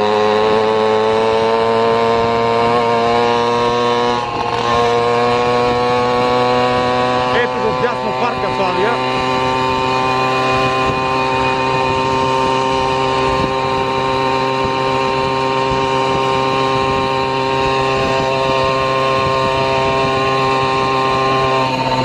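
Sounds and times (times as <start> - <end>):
vehicle motor humming: 0.0 - 22.0.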